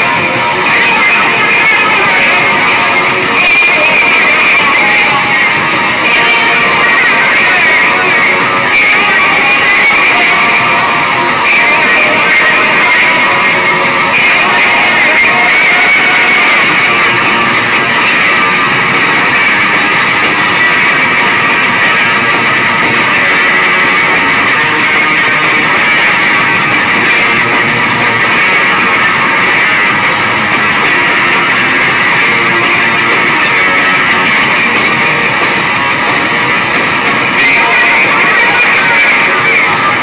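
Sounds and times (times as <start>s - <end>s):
drum kit: 0.0s - 40.0s
electric bass guitar: 0.0s - 40.0s.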